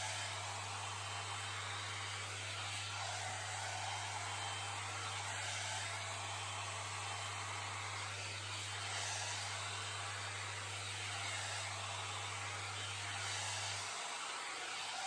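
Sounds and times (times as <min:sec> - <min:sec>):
hot-air hair dryer brush running: 0:00.0 - 0:15.0.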